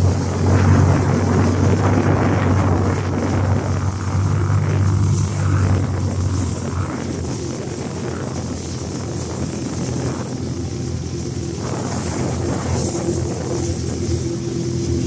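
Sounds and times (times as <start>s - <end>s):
boat engine humming: 0.0s - 15.0s
water rushing: 0.0s - 15.0s
wind rushing: 0.0s - 15.0s.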